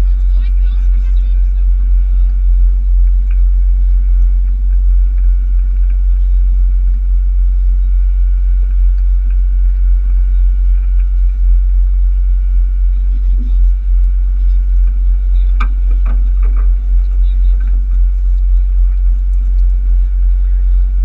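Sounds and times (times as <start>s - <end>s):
boat engine droning: 0.0s - 21.0s
faint hum: 0.0s - 21.0s.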